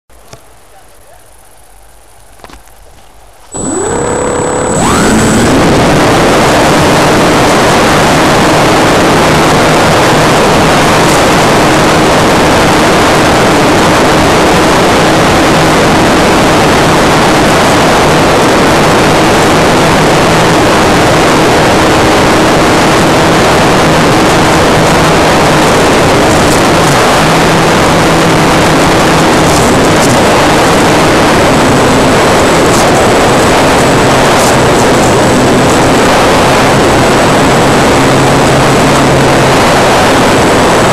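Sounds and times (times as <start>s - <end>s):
faint motor hum: 0.2s - 40.3s
propeller and wind rush: 2.5s - 40.9s.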